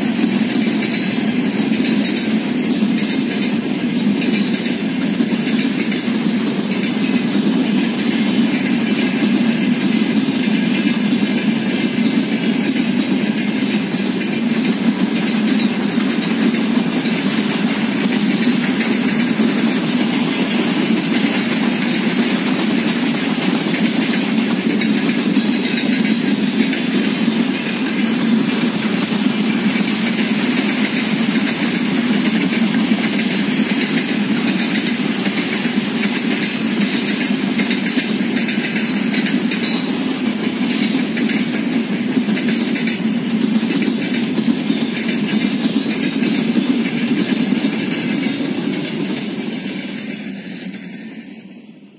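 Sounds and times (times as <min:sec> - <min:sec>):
train wagons rolling on rails: 0:00.0 - 0:51.9.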